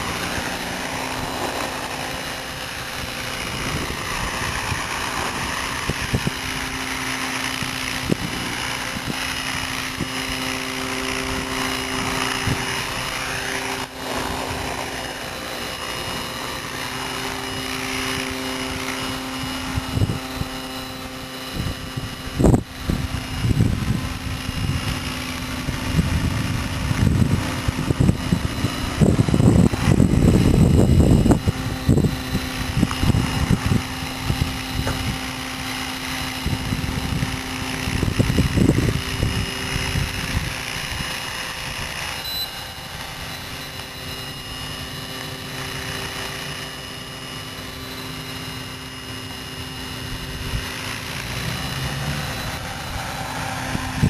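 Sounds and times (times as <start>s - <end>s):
wind buffeting microphone: 0.0s - 14.9s, 15.7s - 42.0s, 51.6s - 54.0s
model helicopter rotor drone: 0.0s - 54.0s.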